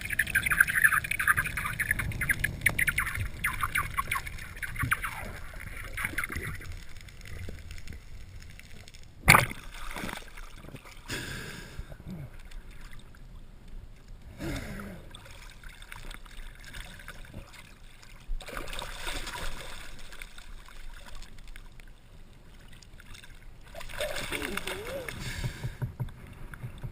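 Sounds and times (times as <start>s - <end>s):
water sloshing and gurgling: 0.0s - 26.9s.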